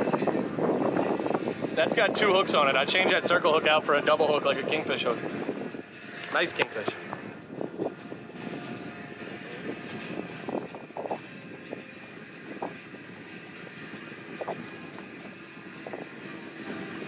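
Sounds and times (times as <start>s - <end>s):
boat engine idling: 0.0s - 17.0s
water noise: 0.0s - 17.0s
wind: 0.0s - 17.0s.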